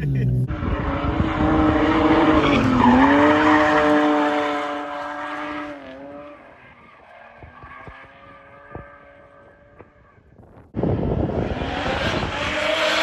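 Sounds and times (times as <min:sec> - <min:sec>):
tyres skidding: 0:00.0 - 0:10.6
car engine at high revs: 0:00.0 - 0:13.0.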